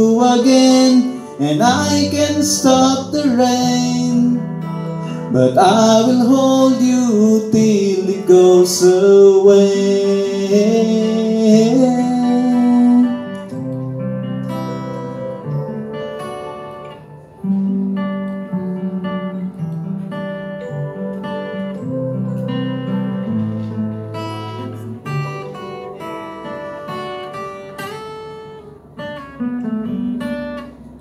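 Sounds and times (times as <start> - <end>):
acoustic guitar: 0.0 - 31.0
keyboard playing held chords: 0.0 - 31.0.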